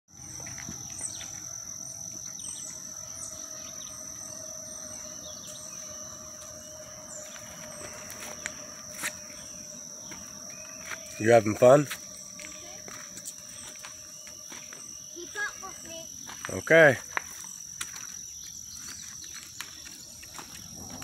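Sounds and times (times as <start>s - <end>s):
high-pitched insect drone: 0.1s - 21.0s
bird chirping: 0.2s - 16.7s, 17.3s - 21.0s.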